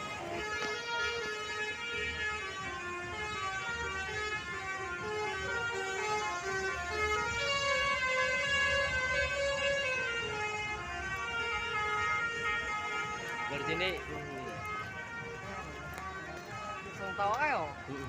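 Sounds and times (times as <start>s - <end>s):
multi-tone air horns playing: 0.0s - 18.0s.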